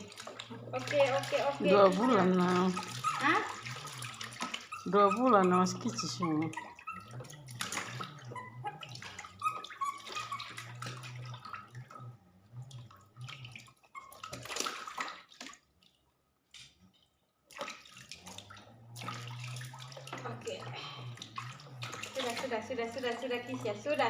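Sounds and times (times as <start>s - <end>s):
water splashing and running: 0.0s - 24.0s.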